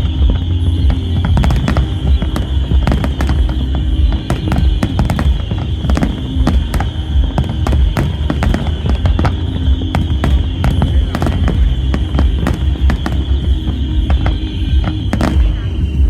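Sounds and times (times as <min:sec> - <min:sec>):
deep rumble: 0:00.0 - 0:16.0
fireworks bangs and crackles: 0:00.0 - 0:16.0.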